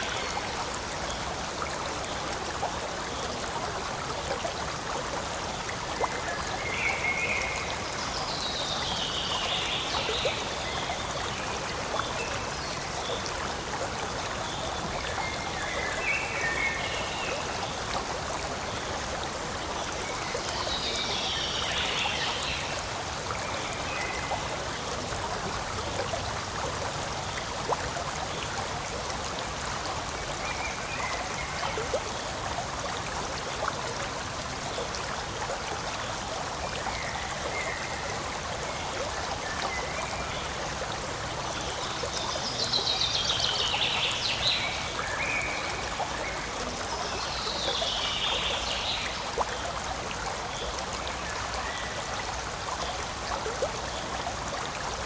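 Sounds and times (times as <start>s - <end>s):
stream flowing water: 0.0s - 55.0s.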